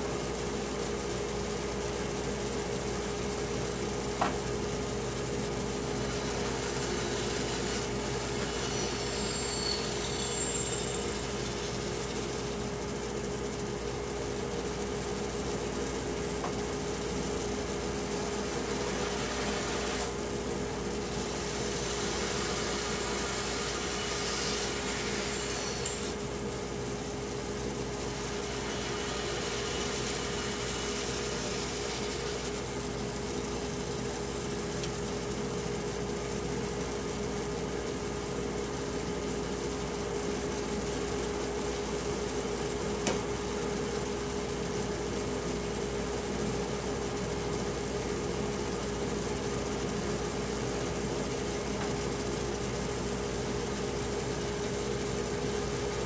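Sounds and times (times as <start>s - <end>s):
machine humming steadily: 0.0s - 56.0s.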